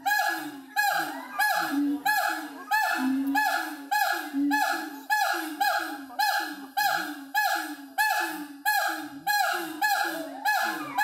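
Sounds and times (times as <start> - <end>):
gibbon hooting: 0.0 - 11.0.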